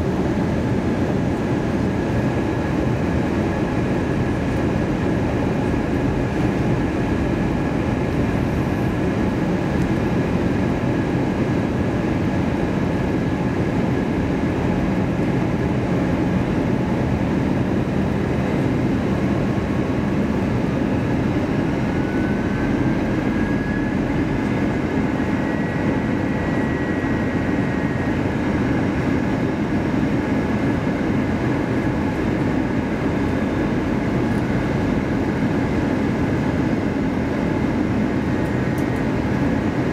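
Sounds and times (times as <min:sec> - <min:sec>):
airplane cabin engine rumble: 0:00.0 - 0:39.9
thin steady whine: 0:00.0 - 0:39.9.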